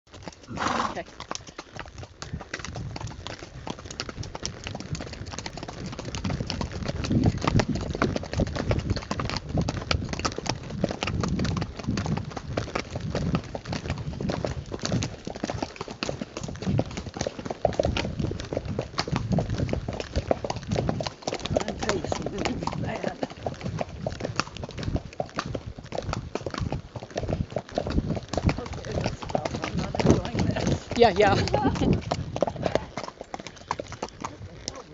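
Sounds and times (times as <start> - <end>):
horse hoofbeats cantering: 0.1 - 34.9.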